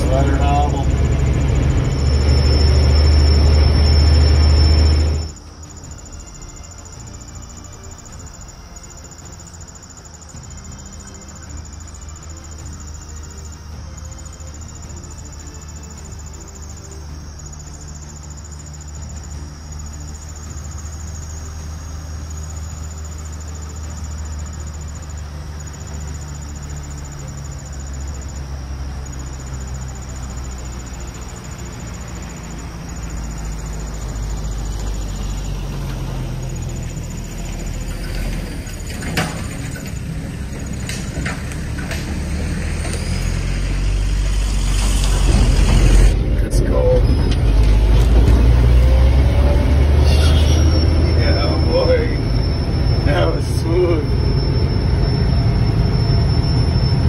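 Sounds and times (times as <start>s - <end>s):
high insect trill: 0.0s - 57.0s
truck engine running: 0.0s - 57.0s.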